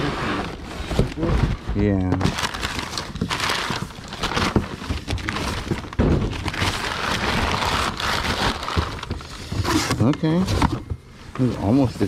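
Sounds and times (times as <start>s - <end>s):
newspaper crumpling: 0.0s - 10.7s.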